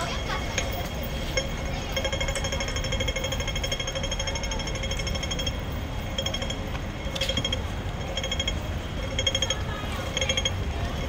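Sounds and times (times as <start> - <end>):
rapid electronic beeps: 1.4 - 10.6.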